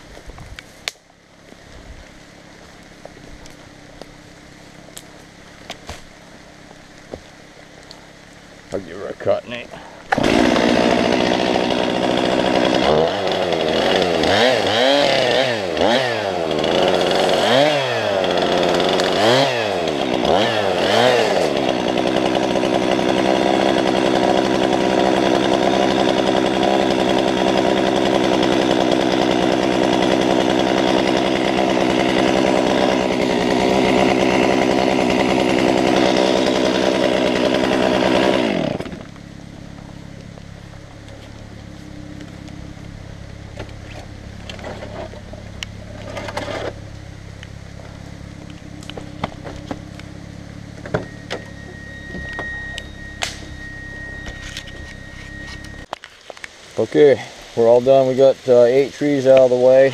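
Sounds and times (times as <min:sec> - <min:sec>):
chainsaw cutting a tree: 0:09.4 - 0:55.9, 0:56.8 - 0:59.9.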